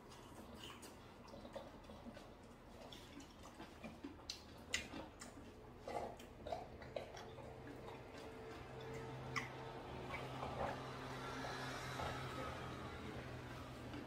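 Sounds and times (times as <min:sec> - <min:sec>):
chewing and mouth noises: 0:00.0 - 0:14.0.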